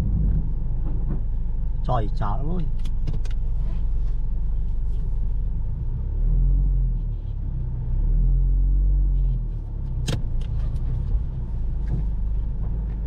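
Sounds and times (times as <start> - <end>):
car low rumble: 0.0 - 13.0.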